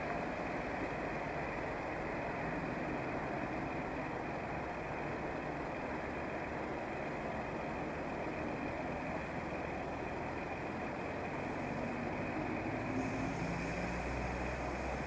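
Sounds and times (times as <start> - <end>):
motorway traffic rumble: 0.0 - 15.0.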